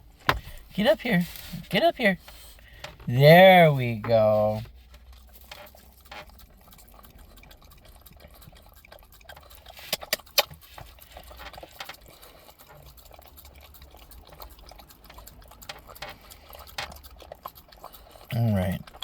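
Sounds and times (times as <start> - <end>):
dog licking and lapping: 0.0 - 19.0.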